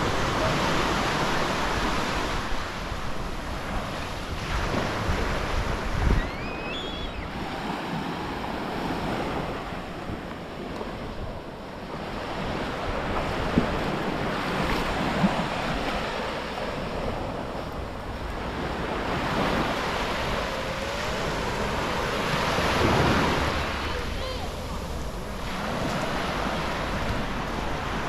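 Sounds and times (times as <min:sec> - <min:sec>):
waves breaking on beach: 0:00.0 - 0:28.0
wind buffeting microphone: 0:00.0 - 0:28.0.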